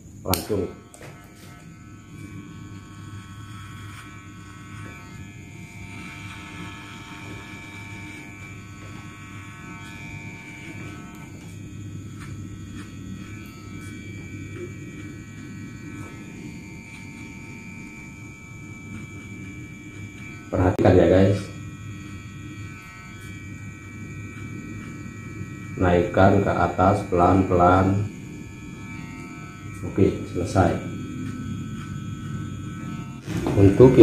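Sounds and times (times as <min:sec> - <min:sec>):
electric hair clippers buzzing: 0:00.0 - 0:34.0.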